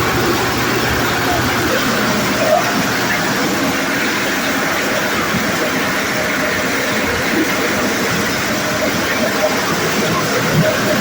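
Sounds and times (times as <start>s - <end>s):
corn sheller machine running: 0.0s - 11.0s.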